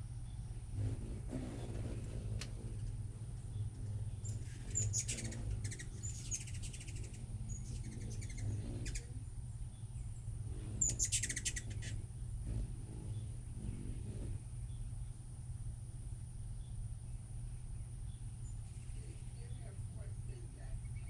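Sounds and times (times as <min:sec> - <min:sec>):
hummingbirds chipping and trilling: 0:00.0 - 0:21.0
steady low hum: 0:00.0 - 0:21.0.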